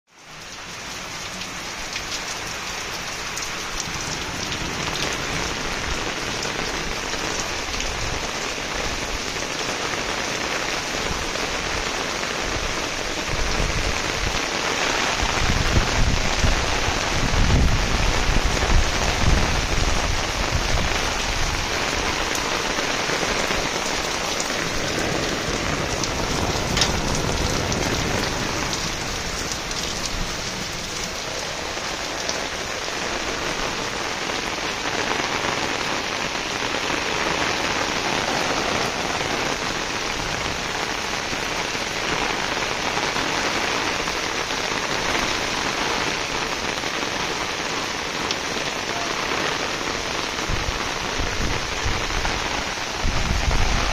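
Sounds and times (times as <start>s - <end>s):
heavy rain: 0.1s - 53.9s.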